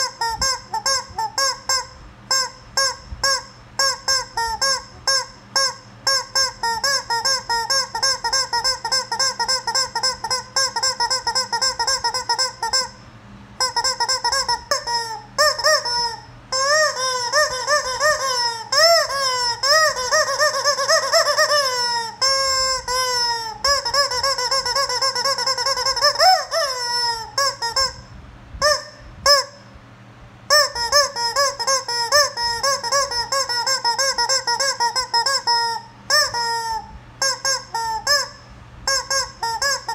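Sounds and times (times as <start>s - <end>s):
rubber chicken toy squawking: 0.0s - 13.0s, 13.6s - 29.7s, 30.5s - 39.9s.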